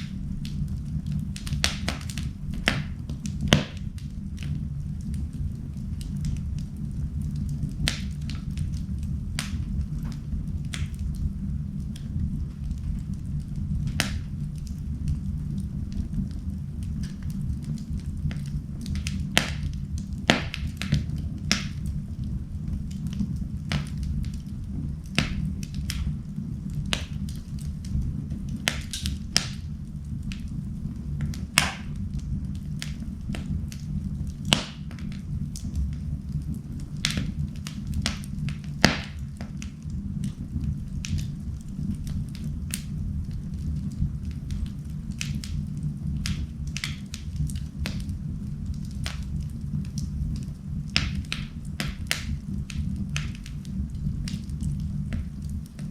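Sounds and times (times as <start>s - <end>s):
fire crackling and popping: 0.0s - 55.9s
wood fire rumbling: 0.0s - 55.9s.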